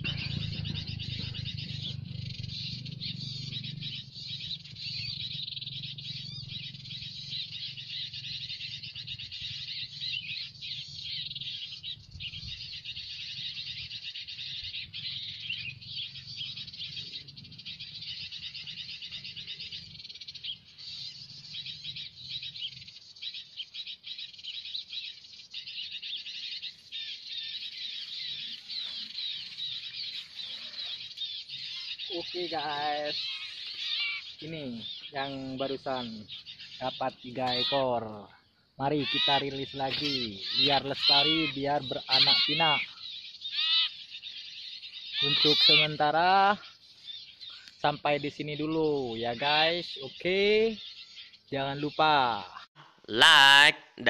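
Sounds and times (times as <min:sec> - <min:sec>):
small birds twittering: 0:00.0 - 0:54.0.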